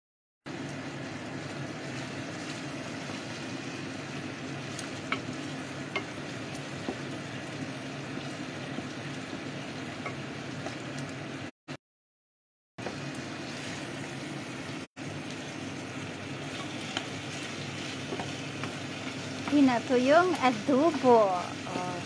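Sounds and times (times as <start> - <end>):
meat sizzling in a pot: 0.5 - 11.5, 12.8 - 22.0.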